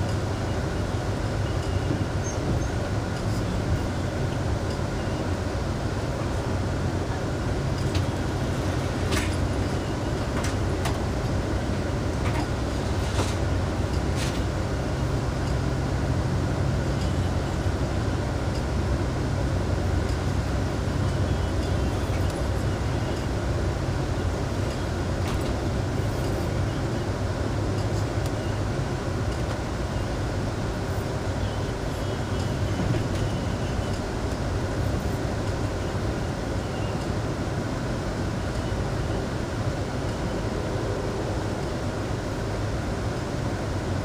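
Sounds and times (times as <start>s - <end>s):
train rumbling from inside: 0.0s - 44.0s.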